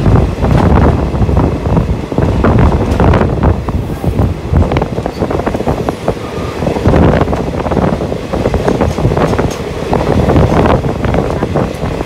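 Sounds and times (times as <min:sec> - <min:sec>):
train rumbling past: 0:00.0 - 0:12.0
wheels clattering on rails: 0:00.0 - 0:12.0
wind buffeting microphone: 0:00.0 - 0:12.0.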